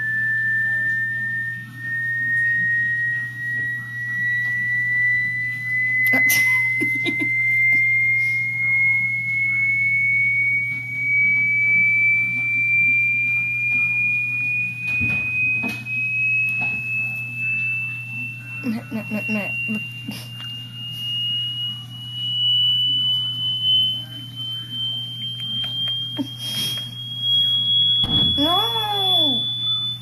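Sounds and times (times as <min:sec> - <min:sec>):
pure tone rising in pitch: 0:00.0 - 0:06.2, 0:07.0 - 0:30.0.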